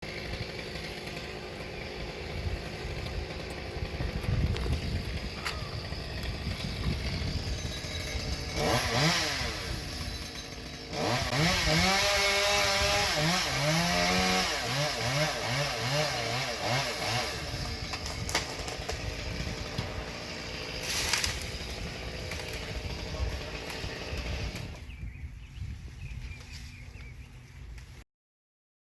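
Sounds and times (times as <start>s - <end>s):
chainsaw revving: 0.0s - 24.9s.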